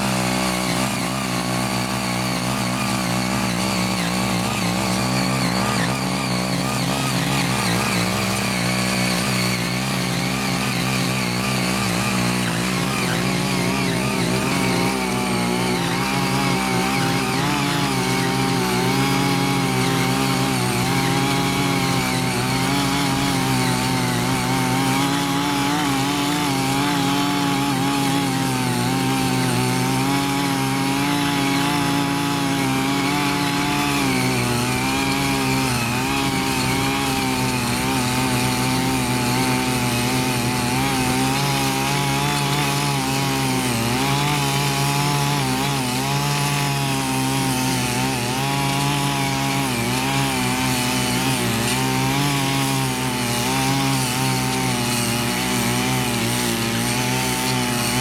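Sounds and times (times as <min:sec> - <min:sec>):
power tiller engines running: 0:00.0 - 0:58.0
tines churning soil: 0:00.0 - 0:58.0.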